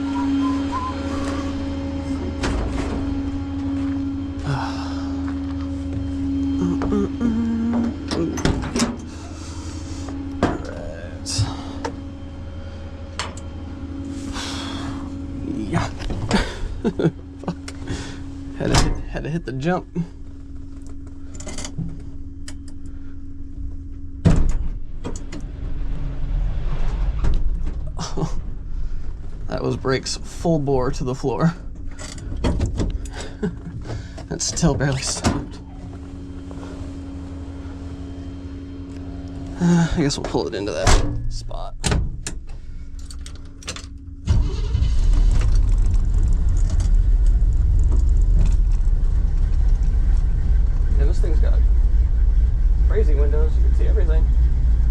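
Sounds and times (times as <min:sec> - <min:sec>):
vehicle engine and road rumble: 0:00.0 - 0:54.9.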